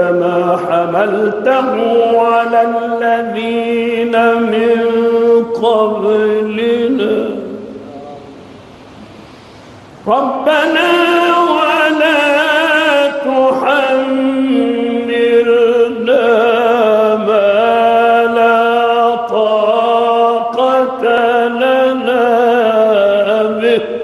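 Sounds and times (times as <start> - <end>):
man chanting recitation: 0.0 - 8.4, 10.0 - 24.0.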